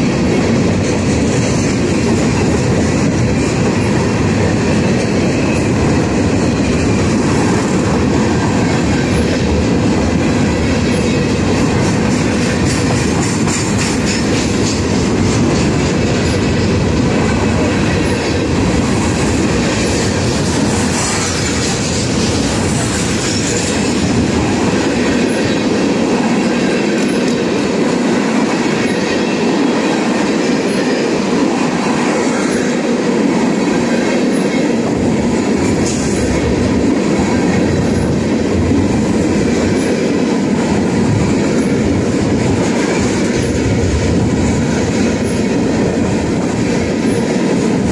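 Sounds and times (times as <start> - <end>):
freight train wheels on rails: 0.0 - 47.9.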